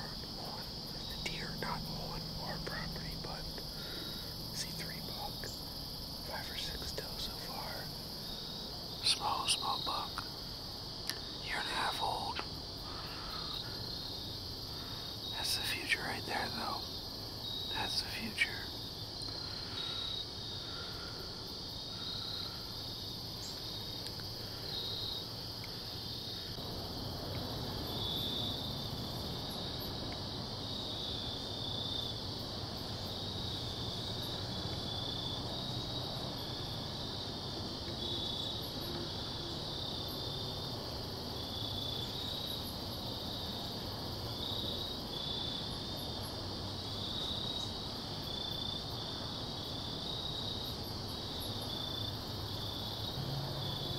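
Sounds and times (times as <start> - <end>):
crickets chirping: 0.0 - 53.9
soft background hiss: 0.0 - 53.9.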